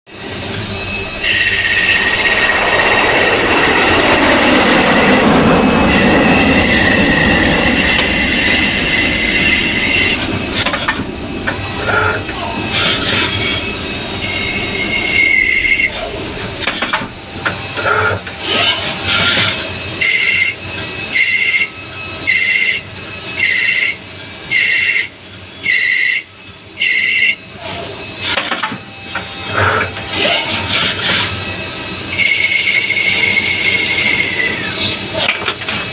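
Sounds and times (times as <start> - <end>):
lathe cutting whine: 0.1 - 35.9.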